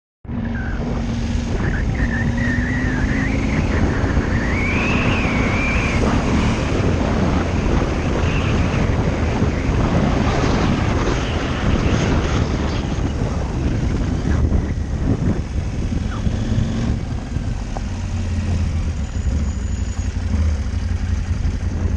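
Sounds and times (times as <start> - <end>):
wind buffeting the microphone: 0.3 - 19.0
motorcycle engine running: 0.3 - 21.9.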